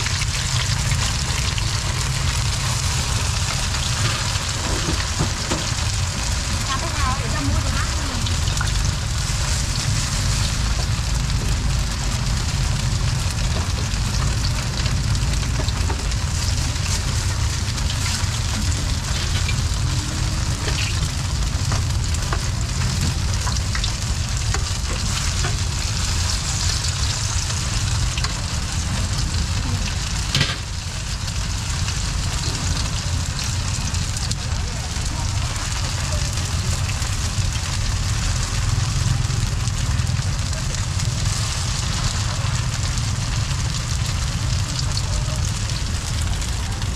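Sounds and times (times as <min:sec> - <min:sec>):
cakes sizzling in oil: 0:00.0 - 0:46.9
low rumble: 0:00.0 - 0:46.9.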